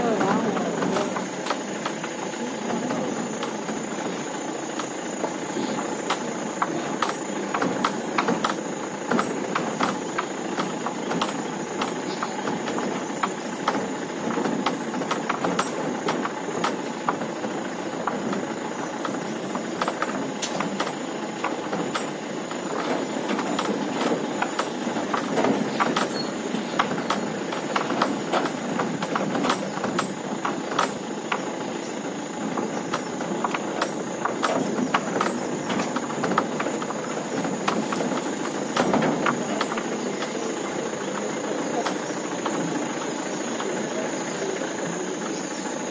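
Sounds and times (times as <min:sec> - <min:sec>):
knocks and clanks: 0:00.0 - 0:43.9.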